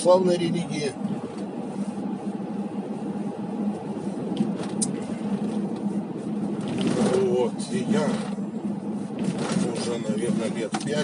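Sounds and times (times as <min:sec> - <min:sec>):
car cabin engine and road noise: 0:00.0 - 0:11.0.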